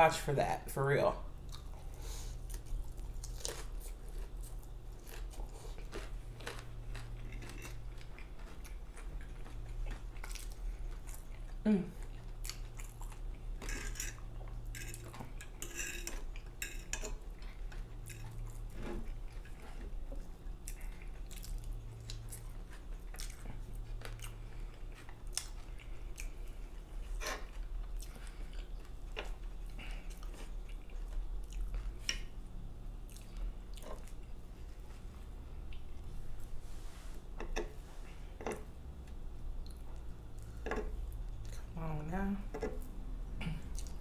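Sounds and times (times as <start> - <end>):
steady low hum: 0.0 - 44.0
chewing and eating food: 1.4 - 44.0.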